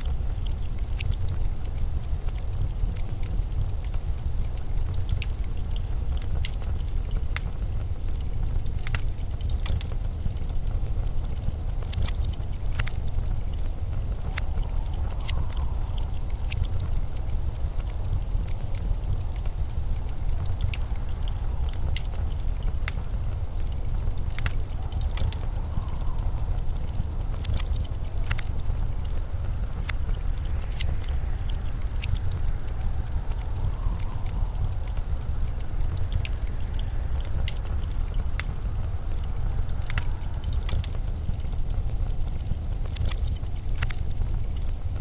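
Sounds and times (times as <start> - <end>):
blizzard wind rumbling: 0.0 - 45.0
sharp crackling clicks: 0.0 - 45.0.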